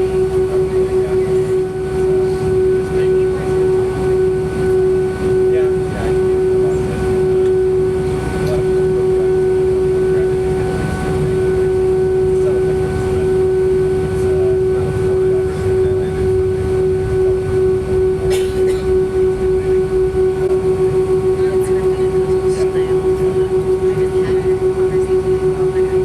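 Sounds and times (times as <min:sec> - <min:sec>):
airliner cabin engine drone: 0:00.0 - 0:26.0
steady whining tone: 0:00.0 - 0:26.0.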